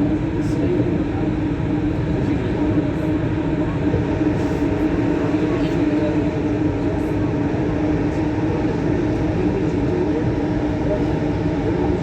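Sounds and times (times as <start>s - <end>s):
metro train running noise: 0.0s - 12.0s.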